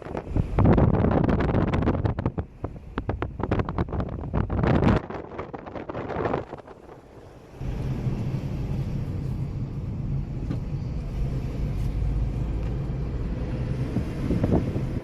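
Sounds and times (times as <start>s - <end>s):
motor vehicle rumbling: 0.0s - 15.0s.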